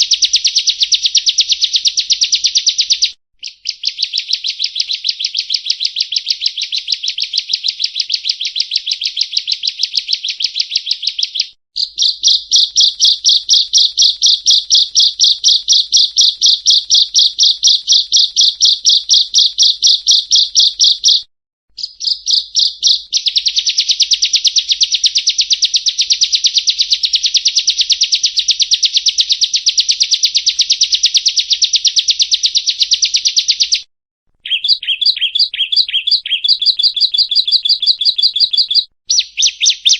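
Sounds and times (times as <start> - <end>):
bird singing rapid high chip notes: 0.0 - 33.8, 34.4 - 39.9.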